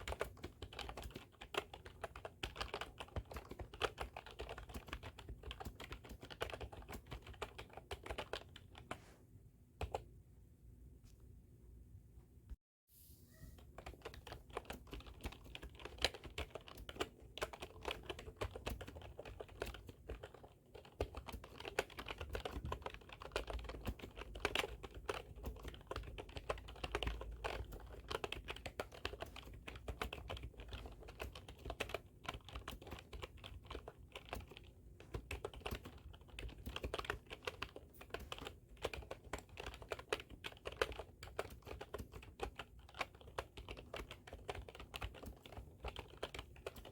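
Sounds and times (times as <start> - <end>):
fast keyboard typing: 0.0 - 9.0, 9.8 - 10.0, 13.8 - 46.9.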